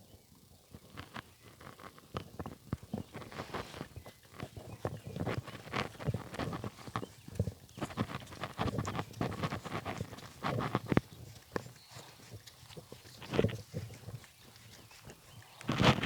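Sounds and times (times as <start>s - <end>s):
horse hooves clopping: 0.9s - 16.0s.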